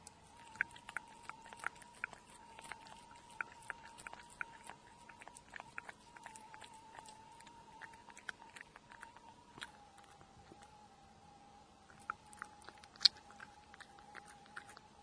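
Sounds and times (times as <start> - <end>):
cat chewing and licking: 0.0 - 10.8, 11.8 - 15.0.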